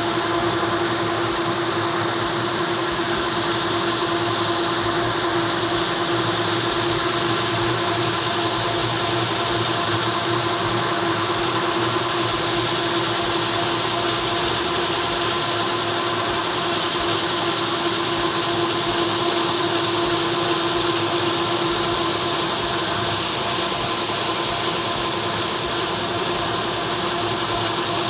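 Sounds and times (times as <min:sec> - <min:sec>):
floor sander motor hum: 0:00.0 - 0:28.0.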